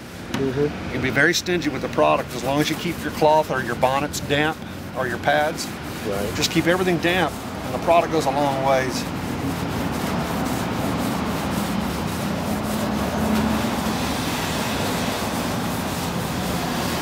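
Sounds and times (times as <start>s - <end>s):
cloth scrubbing metal surface: 1.0s - 17.0s.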